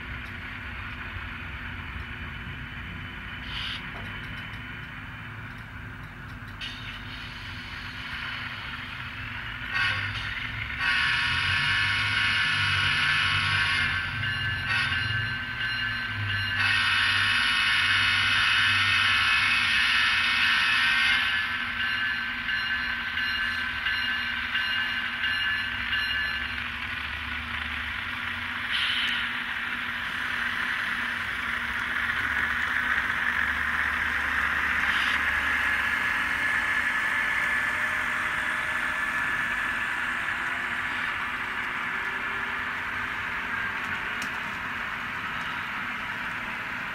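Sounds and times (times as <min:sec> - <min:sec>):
diesel engine sound from small speakers: 0:00.0 - 0:16.7, 0:25.3 - 0:46.9
model train rushing past: 0:06.6 - 0:46.9.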